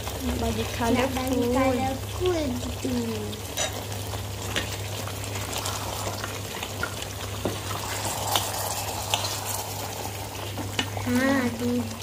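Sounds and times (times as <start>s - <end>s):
curry simmering and bubbling: 0.0s - 12.0s.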